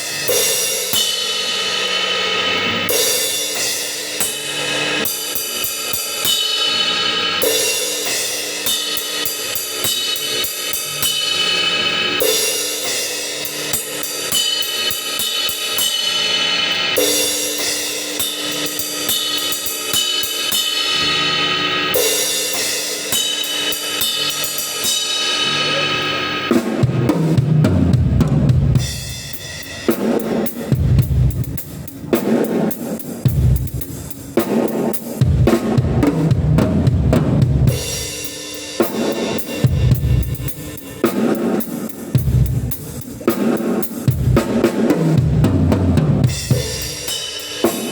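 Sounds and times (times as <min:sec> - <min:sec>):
acoustic drum kit groove: 0:00.0 - 0:20.9, 0:21.9 - 0:47.9
cymbal crash: 0:00.0 - 0:47.9
loud drum fill: 0:00.0 - 0:47.9.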